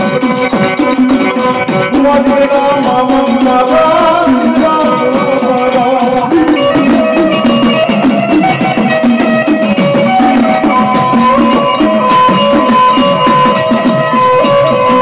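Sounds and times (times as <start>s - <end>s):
fast hand-drum beat: 0.0s - 15.0s
held instrumental tones: 0.0s - 15.0s
person singing: 0.0s - 15.0s.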